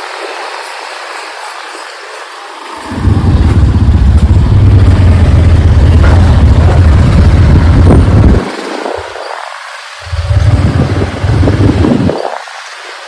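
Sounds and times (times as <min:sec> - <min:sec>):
motorcycle engine rumbling: 0:00.1 - 0:13.0.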